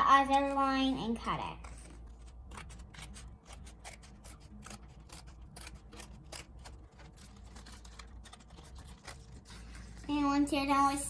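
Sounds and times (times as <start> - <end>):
scissors cutting paper plate: 0.1 - 10.2.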